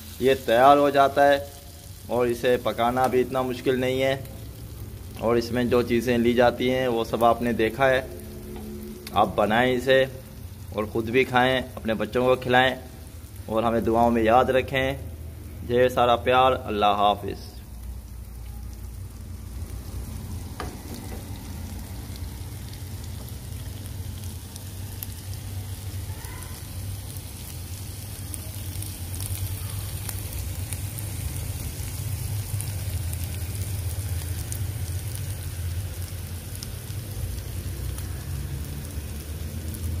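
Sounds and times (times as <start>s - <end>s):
meat sizzling: 0.0s - 40.0s.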